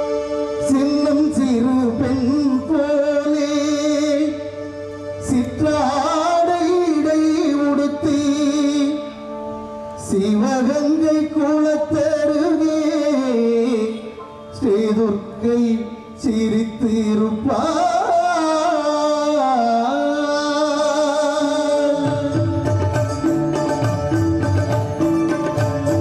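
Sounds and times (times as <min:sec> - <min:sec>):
keyboard chords: 0:00.0 - 0:26.0
man singing into microphone: 0:00.5 - 0:23.0.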